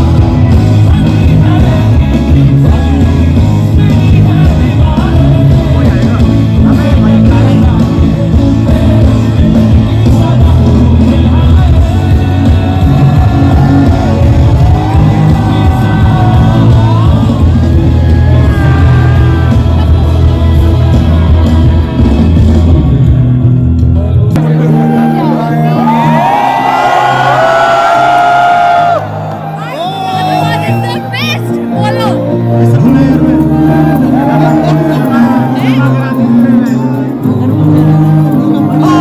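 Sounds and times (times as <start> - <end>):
live band music: 0.0 - 39.0.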